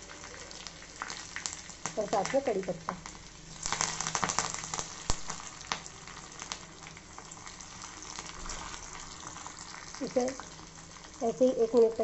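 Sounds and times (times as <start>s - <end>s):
leaves sizzling and crackling in oil: 0.0s - 12.0s.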